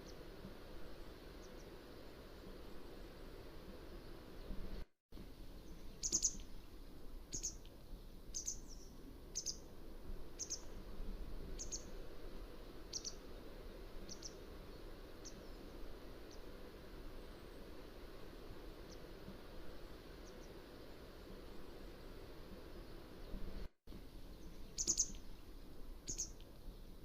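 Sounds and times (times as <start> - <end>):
steady low hiss: 0.0 - 27.0.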